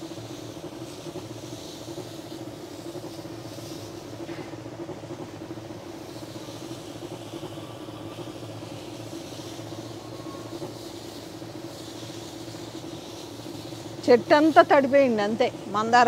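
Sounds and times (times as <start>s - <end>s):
liquid spraying hiss: 0.0s - 16.0s
sprayer pump humming: 0.0s - 16.0s.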